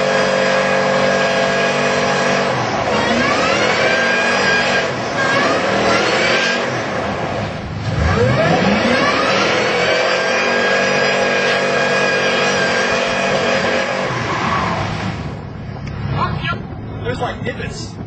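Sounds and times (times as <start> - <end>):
truck engine revving hard: 0.0 - 16.4.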